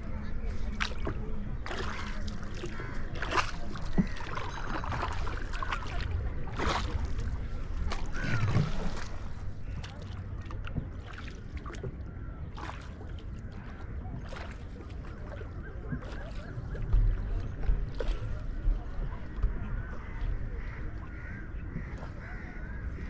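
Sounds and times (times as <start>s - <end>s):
faint voices: 0.0s - 23.0s
paddles splashing in water: 0.0s - 23.0s.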